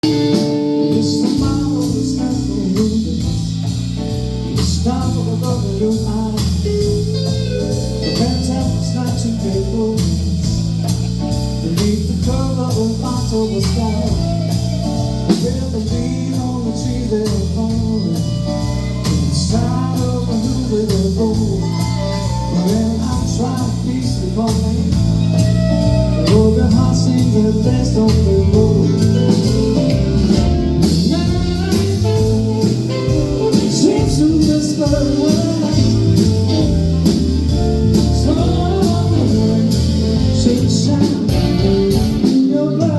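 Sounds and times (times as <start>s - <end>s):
person singing: 0.0s - 3.7s, 4.4s - 42.9s
live blues band playing: 0.0s - 42.9s.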